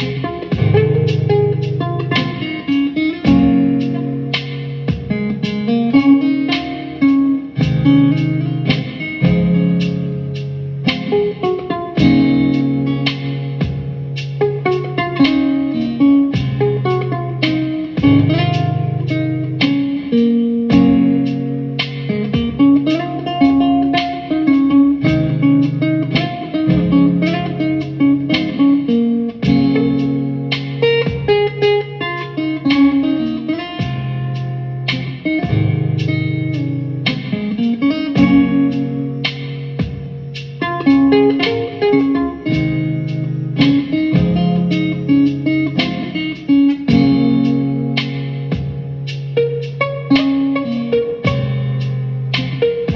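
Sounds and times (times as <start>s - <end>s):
slow soulful guitar music: 0.0s - 52.9s.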